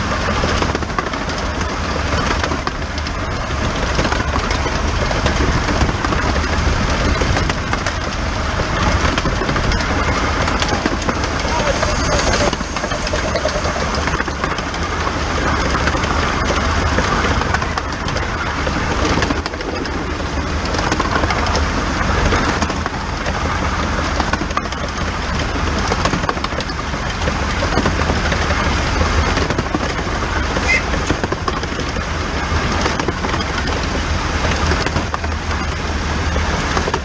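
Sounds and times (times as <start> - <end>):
rattles: 0.0 - 37.0
steam locomotive running: 0.0 - 37.0.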